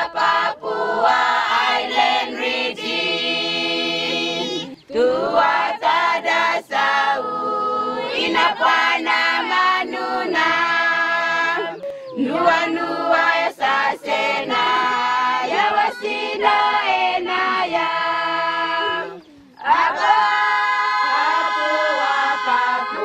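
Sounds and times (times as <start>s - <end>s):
women singing in chorus: 0.0s - 23.0s.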